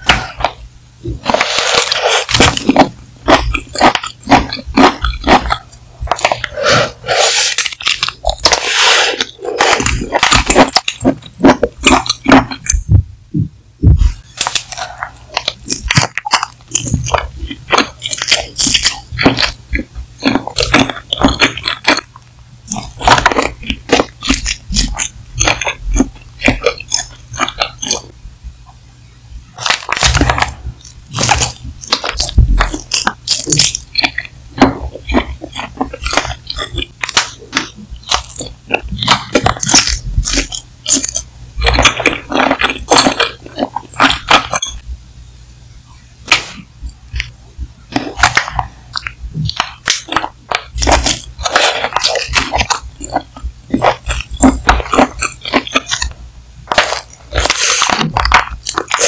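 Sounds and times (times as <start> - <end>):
close-miked chewing and crunching: 0.0 - 28.2, 29.4 - 44.8, 45.9 - 59.0.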